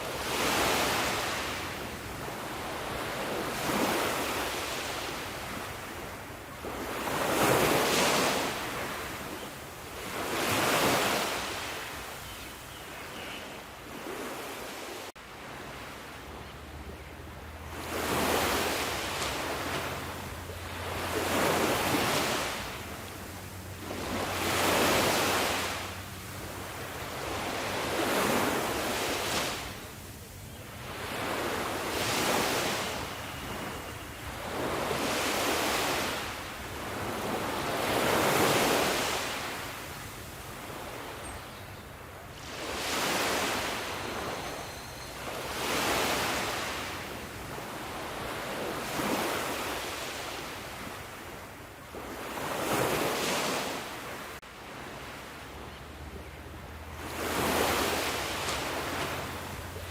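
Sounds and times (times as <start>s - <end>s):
sea waves surging: 0.0s - 12.1s, 13.9s - 41.2s, 42.1s - 59.9s.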